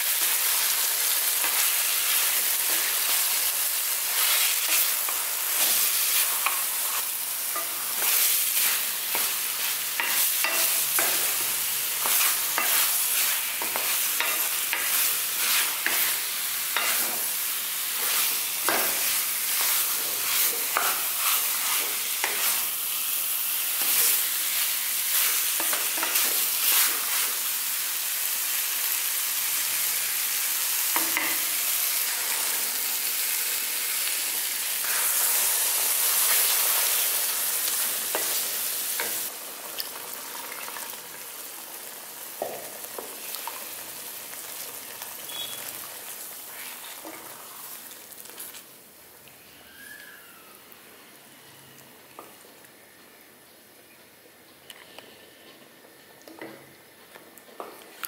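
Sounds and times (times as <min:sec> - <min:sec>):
chicken sizzling in pan: 0:00.0 - 0:51.8.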